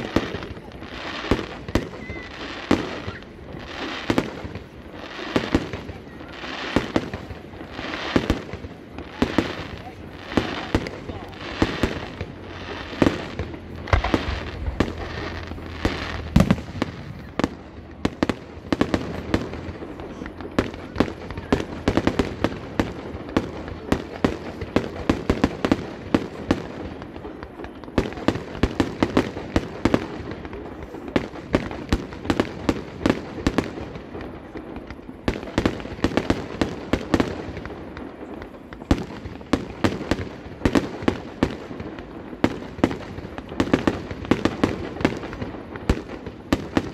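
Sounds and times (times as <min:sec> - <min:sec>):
fireworks bursting with sharp bangs: 0:00.0 - 0:46.9.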